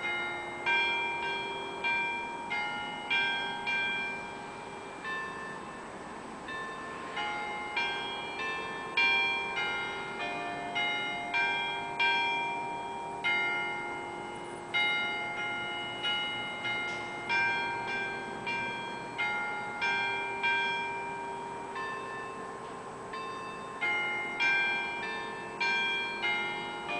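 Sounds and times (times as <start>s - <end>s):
church bells pealing: 0.0s - 26.9s.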